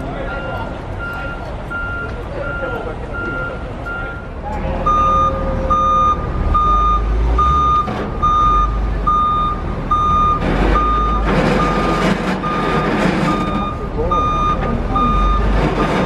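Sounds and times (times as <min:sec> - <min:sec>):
forklift engine rumble: 0:00.0 - 0:16.0
forklift backup alarm beeping: 0:00.3 - 0:16.0.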